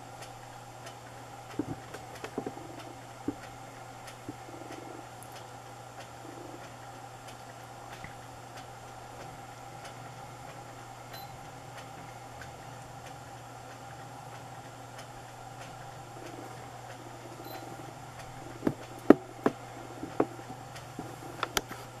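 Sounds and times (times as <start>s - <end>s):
low background hum: 0.0s - 22.0s
faint regular ticks: 0.2s - 22.0s.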